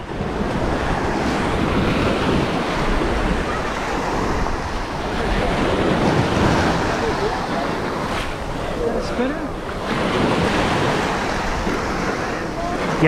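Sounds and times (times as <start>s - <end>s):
ocean surf washing up: 0.0s - 13.0s
wind buffeting microphone: 0.0s - 13.0s.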